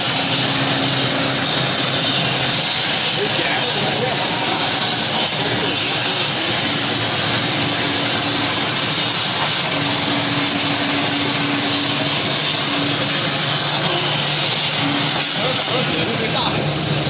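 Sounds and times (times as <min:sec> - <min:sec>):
plasma cutter hissing: 0:00.0 - 0:17.0.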